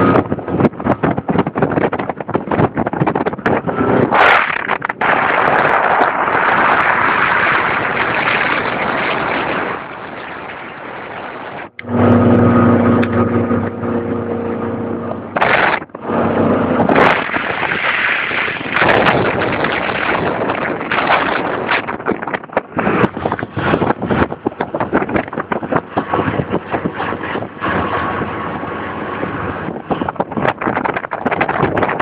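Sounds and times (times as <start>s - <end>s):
boat engine droning: 0.0s - 32.0s
wind and water rushing: 0.0s - 32.0s.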